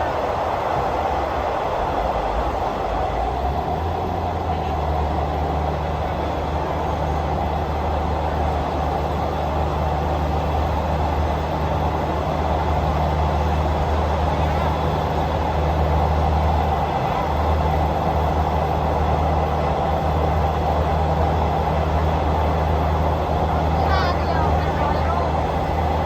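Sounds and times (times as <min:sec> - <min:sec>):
constant low hum: 0:00.0 - 0:26.0
train running rumble: 0:00.0 - 0:26.0.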